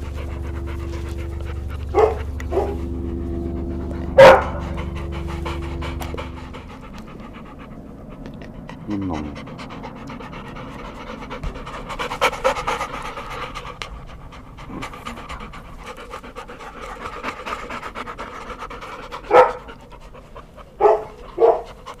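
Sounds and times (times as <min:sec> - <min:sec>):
dogs panting: 0:00.0 - 0:22.0.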